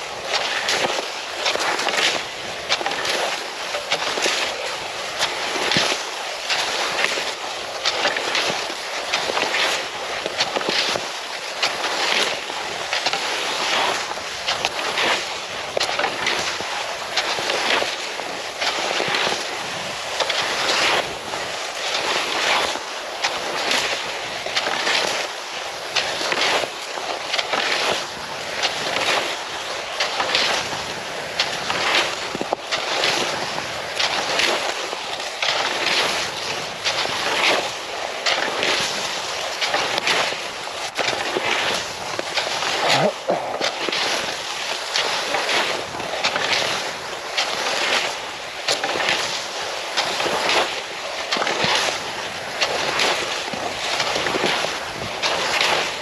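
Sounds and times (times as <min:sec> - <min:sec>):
skis swishing over snow: 0:00.0 - 0:56.0.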